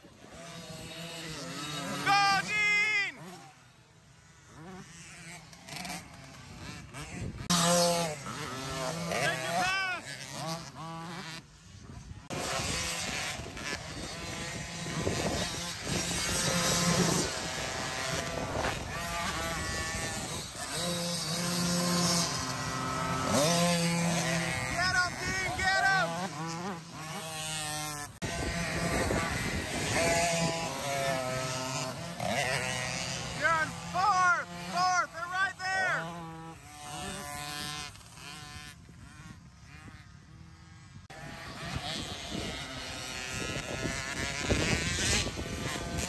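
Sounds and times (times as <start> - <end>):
dirt bike engine running: 0.1 - 46.0.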